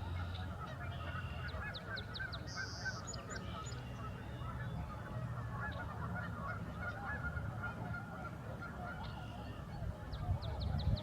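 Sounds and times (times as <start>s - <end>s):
geese honking: 0.0s - 10.6s.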